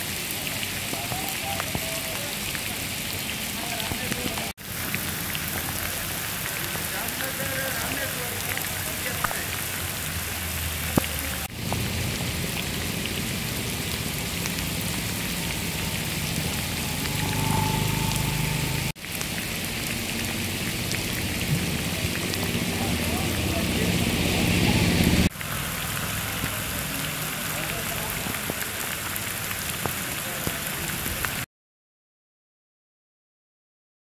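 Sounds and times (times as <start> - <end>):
heavy rain on pavement and water: 0.0 - 31.5.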